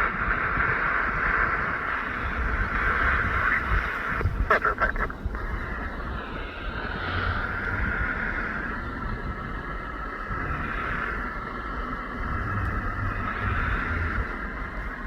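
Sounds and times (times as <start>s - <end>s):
distant aircraft engines droning: 0.0s - 15.0s
wind on microphone: 0.0s - 15.0s.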